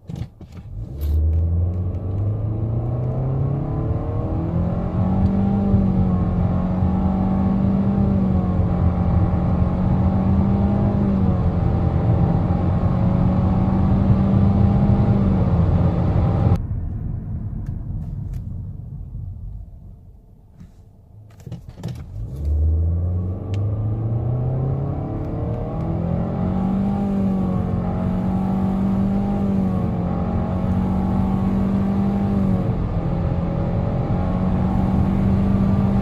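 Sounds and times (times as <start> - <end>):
car engine at full throttle: 0.4 - 19.6, 20.5 - 36.0.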